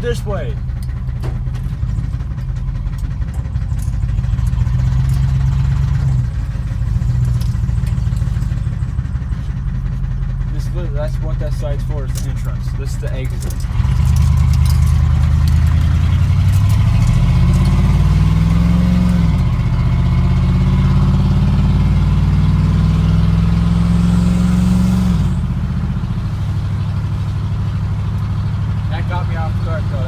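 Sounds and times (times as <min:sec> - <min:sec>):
truck engine accelerating hard: 0:00.0 - 0:30.0.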